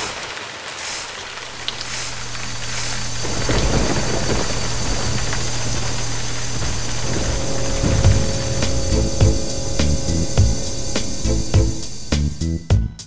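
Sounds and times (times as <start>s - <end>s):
heavy rain hissing: 0.0s - 13.0s
thunder rumbling: 1.4s - 13.0s
low steady hum: 1.5s - 13.0s.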